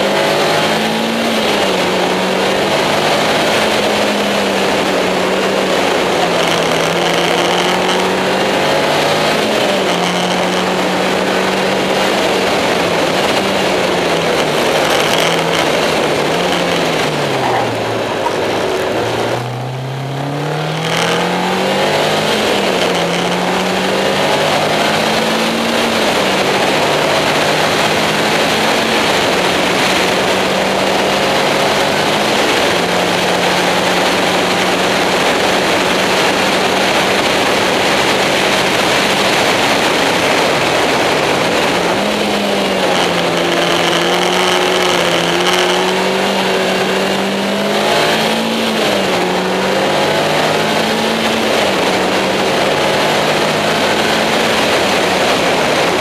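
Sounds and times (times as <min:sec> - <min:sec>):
car engine running hard: 0:00.0 - 0:56.0
wind and road noise: 0:00.0 - 0:56.0.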